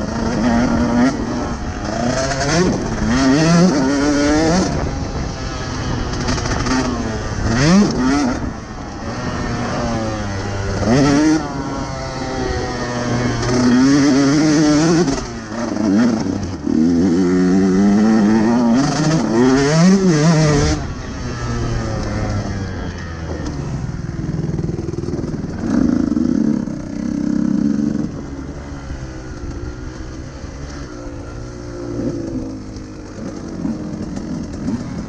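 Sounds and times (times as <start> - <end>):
two-stroke engine revving: 0.0 - 35.0.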